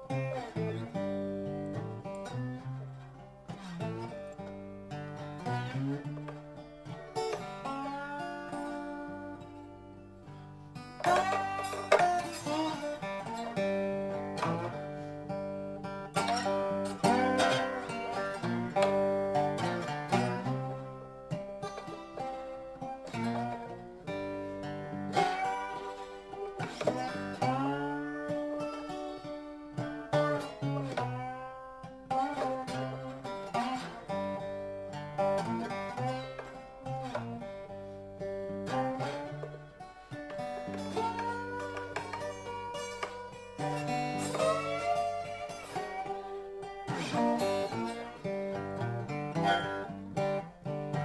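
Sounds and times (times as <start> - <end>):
slide guitar music: 0.0 - 51.0.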